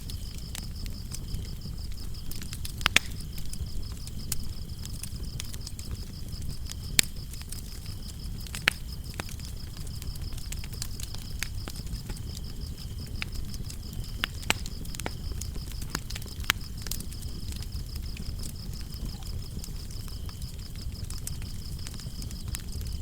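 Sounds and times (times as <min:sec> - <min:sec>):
crickets chirping: 0:00.0 - 0:23.0
lower cricket chirping: 0:00.0 - 0:23.0
wood fire crackling and popping: 0:00.0 - 0:23.0.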